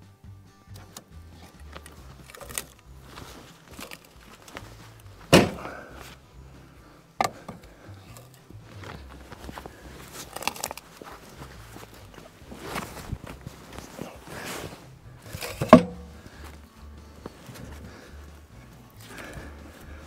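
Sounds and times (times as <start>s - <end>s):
footsteps in snow: 1.6s - 6.7s, 8.2s - 20.0s.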